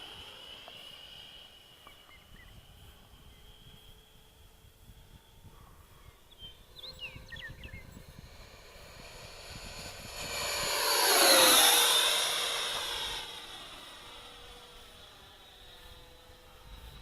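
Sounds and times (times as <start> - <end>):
model jet fan whine passing: 0.0 - 17.0.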